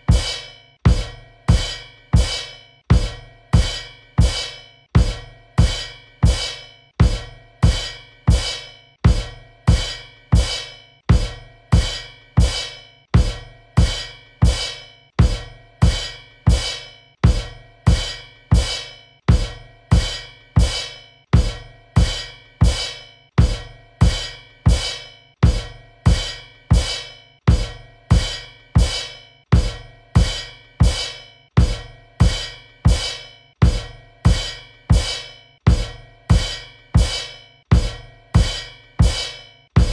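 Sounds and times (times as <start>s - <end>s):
kick drum and cymbal hits: 0.0s - 39.9s.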